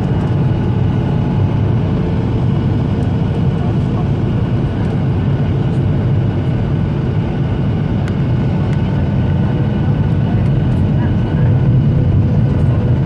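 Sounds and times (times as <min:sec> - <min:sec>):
engine and airflow rumble: 0:00.0 - 0:13.0.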